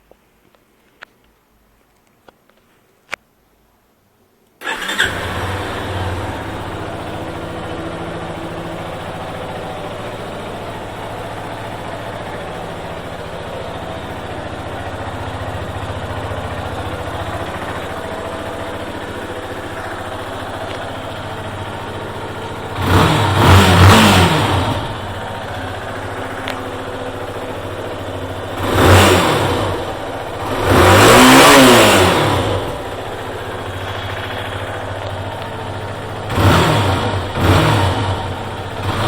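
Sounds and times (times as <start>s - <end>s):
motorcycle engine revving: 4.6s - 39.0s
motorcycle engine starting and idling: 4.6s - 39.0s.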